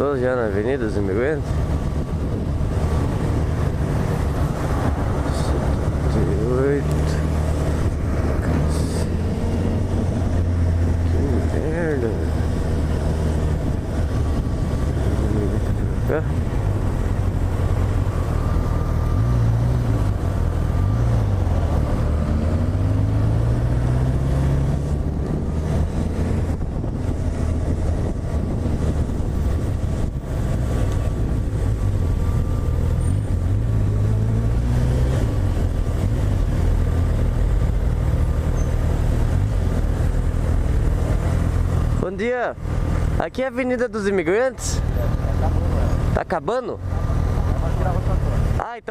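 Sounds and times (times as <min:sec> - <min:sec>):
wind noise: 0:00.6 - 0:41.9
motorcycle engine revving: 0:01.2 - 0:43.2.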